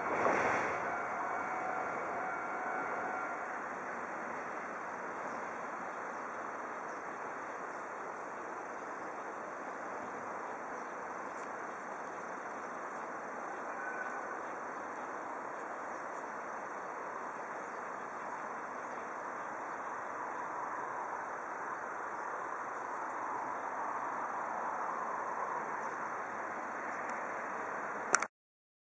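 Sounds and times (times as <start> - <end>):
outdoor background hiss: 0.0 - 28.3.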